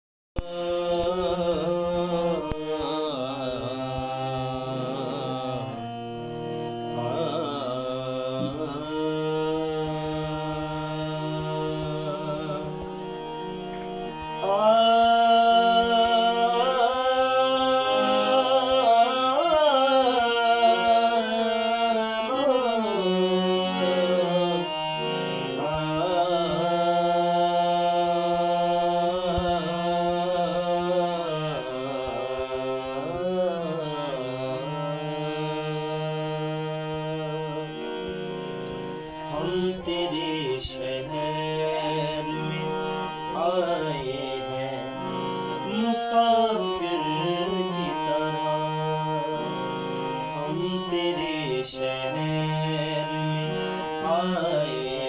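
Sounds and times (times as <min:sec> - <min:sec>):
man singing: 0:00.4 - 0:38.2, 0:39.0 - 0:55.0
harmonium sustained notes: 0:00.4 - 0:55.0.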